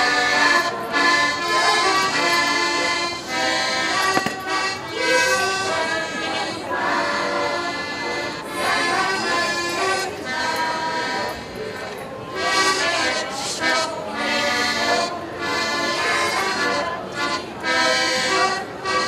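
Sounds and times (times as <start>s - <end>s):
folk dance music with accordion: 0.0s - 19.0s.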